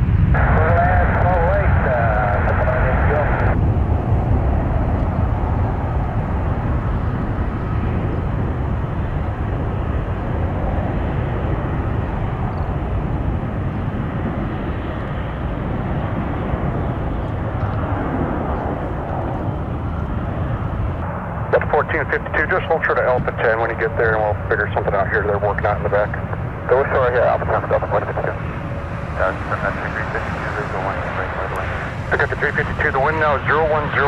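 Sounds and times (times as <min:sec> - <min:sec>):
jet engine rumble: 0:00.0 - 0:34.0.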